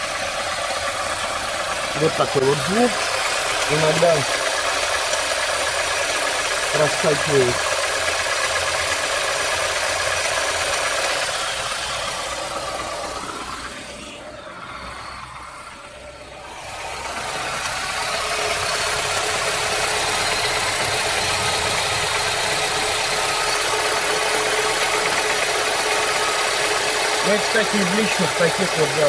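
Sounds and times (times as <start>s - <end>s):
engine knock: 0.0s - 14.1s, 15.7s - 29.0s
car engine idling: 0.0s - 29.0s.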